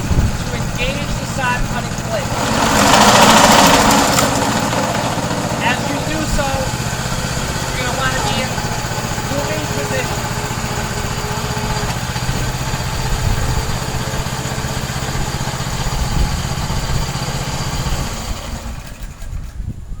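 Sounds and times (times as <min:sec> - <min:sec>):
sod cutter engine running: 0:00.0 - 0:19.3.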